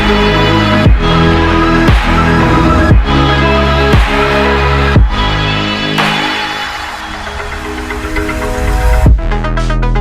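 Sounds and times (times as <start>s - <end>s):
electronic music with synth chords: 0.0s - 10.0s.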